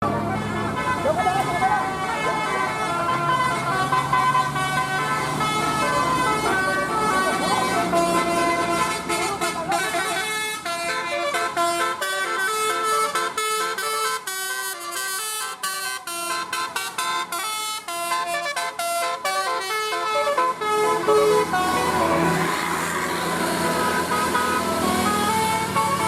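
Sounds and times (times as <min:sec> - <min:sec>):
musical bus horn tune: 0:00.0 - 0:26.0
vehicle engine and road noise: 0:00.0 - 0:26.0.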